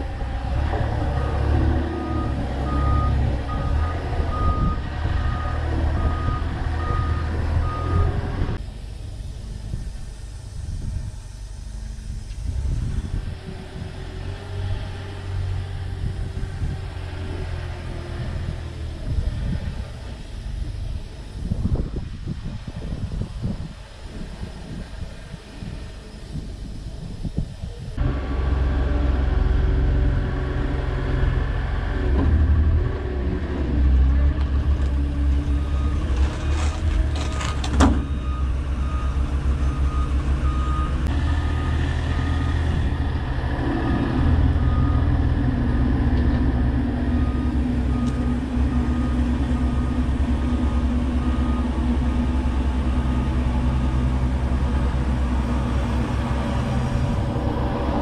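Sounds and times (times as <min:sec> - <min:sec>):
heavy vehicle engine revving: 0:00.0 - 0:27.4, 0:28.0 - 0:58.0.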